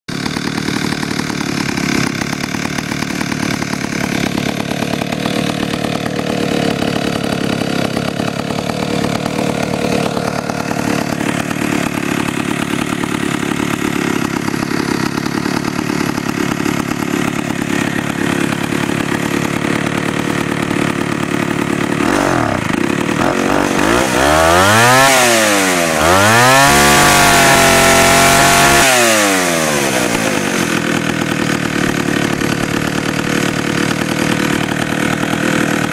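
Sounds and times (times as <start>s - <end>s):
chainsaw idling and revving: 0.1s - 35.9s.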